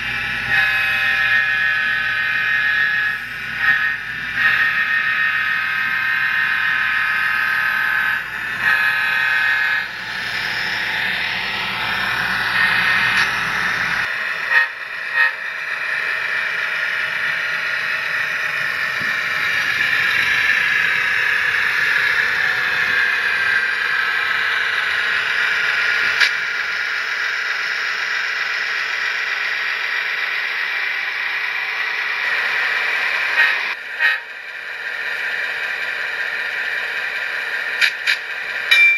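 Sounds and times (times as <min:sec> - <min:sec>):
model locomotive diesel sound: 0:00.0 - 0:38.9.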